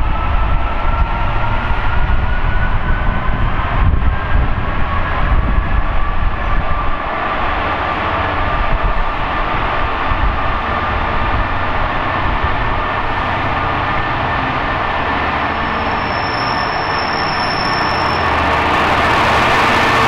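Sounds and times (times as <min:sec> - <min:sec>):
train rail noise rushing: 0:00.0 - 0:20.0.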